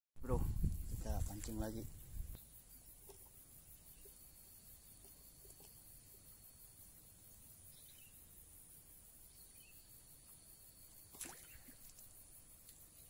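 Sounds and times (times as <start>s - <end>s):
insects chirring: 0.2s - 13.0s.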